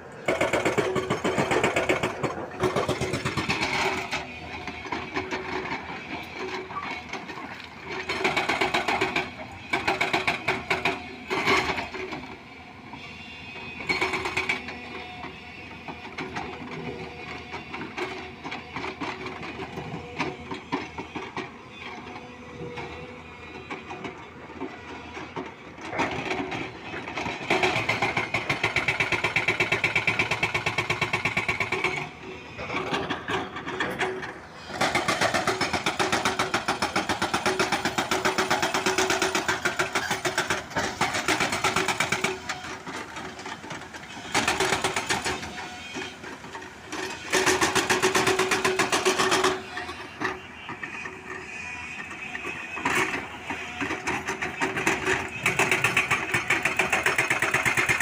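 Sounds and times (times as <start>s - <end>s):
excavator diesel engine pulsing: 0.0s - 58.0s.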